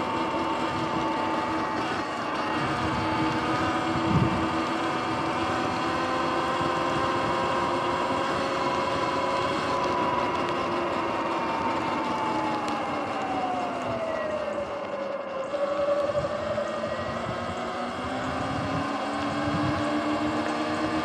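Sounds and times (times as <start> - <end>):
electric motor whining: 0.0 - 21.0
wind noise: 0.0 - 21.0.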